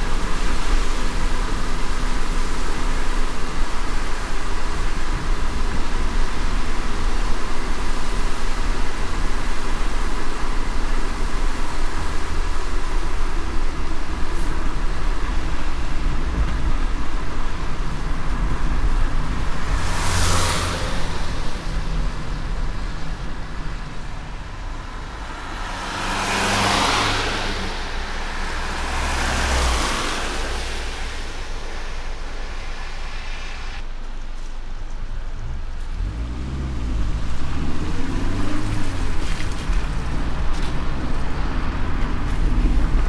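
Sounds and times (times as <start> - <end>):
car driving on wet road: 0.0 - 43.0
vehicles swishing past: 0.0 - 43.0.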